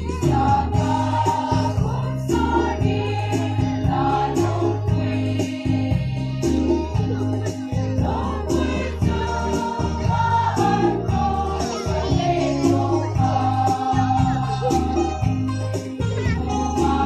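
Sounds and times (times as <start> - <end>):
women's choir singing a hymn: 0.0 - 15.8, 16.4 - 17.0
accompaniment with bass and beat: 0.0 - 17.0.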